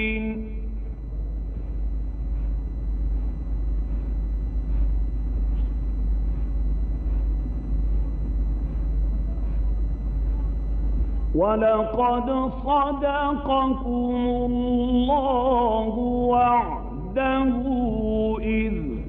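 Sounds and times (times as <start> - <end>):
faint soft pulses: 0.0 - 18.6
recording hum and hiss: 0.0 - 19.0.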